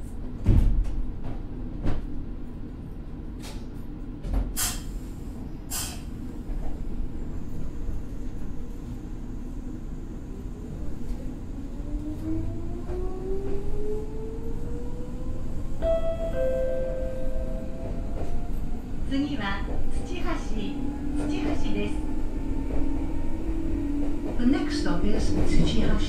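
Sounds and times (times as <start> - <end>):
train wheels rumbling: 0.2 - 26.0.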